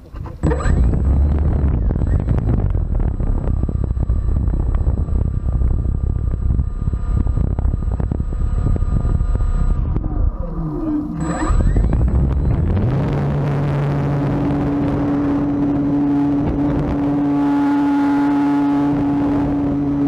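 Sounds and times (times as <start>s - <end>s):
model airplane propeller motor running: 0.0s - 20.0s
propeller wash buffeting microphone: 0.0s - 20.0s.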